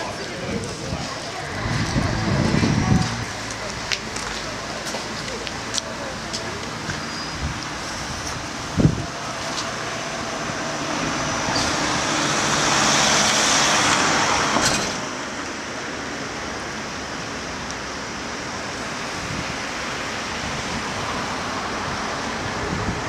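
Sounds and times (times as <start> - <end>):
coach road and engine noise: 0.0 - 23.0.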